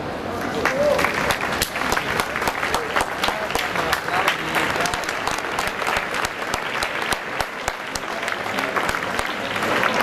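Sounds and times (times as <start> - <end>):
audience applauding: 0.4 - 10.0.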